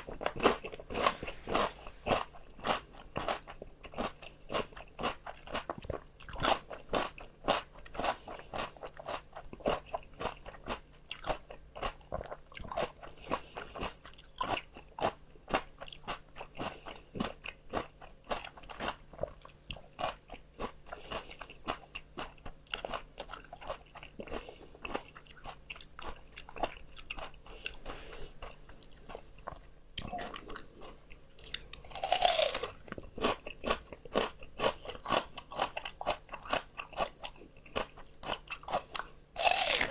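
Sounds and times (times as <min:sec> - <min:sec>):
crunching raw vegetables: 0:00.0 - 0:39.9.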